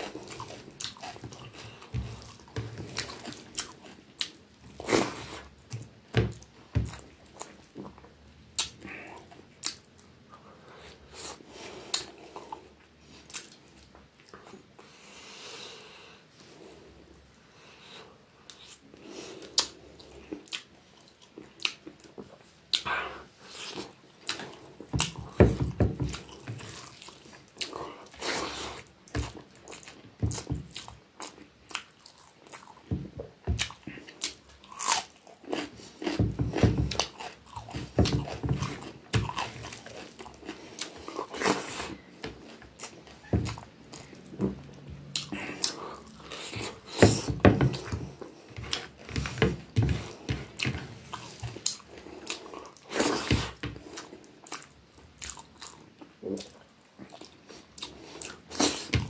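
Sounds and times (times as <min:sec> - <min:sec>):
person chewing: 0:00.0 - 0:14.9, 0:17.8 - 0:59.0.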